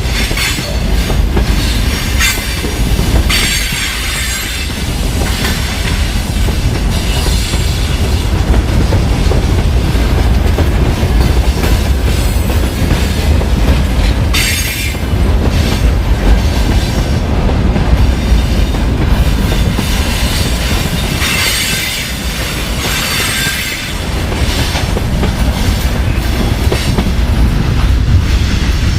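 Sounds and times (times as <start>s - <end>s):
freight train wheels rumbling: 0.0s - 28.9s.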